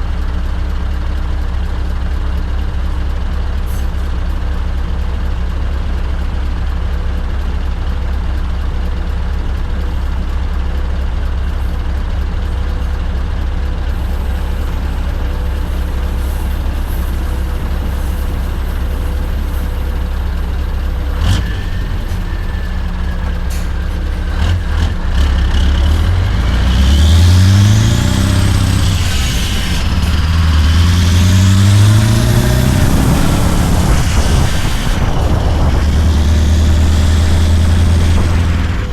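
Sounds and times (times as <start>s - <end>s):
truck engine drone: 0.0s - 38.9s.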